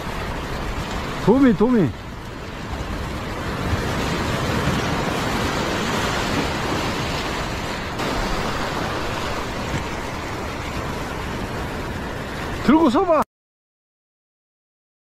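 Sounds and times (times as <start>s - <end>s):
sea surf washing over rocks: 0.0s - 13.2s.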